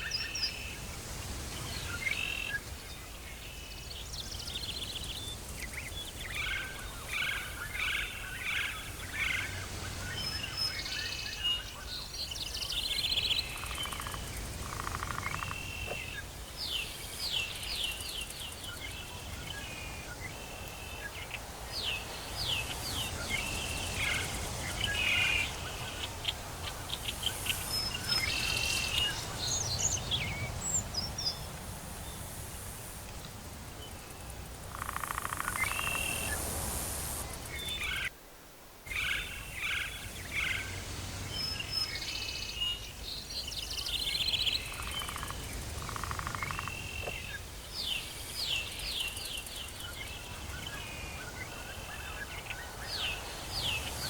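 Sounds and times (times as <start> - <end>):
birds calling and trilling: 0.0 - 32.3, 33.8 - 38.1, 38.9 - 54.0.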